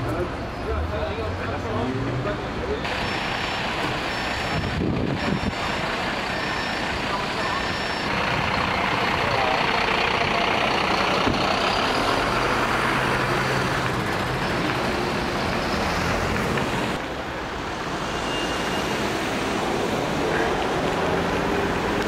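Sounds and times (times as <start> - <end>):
road traffic noise: 0.0 - 22.0
vehicle engines humming: 0.0 - 22.0.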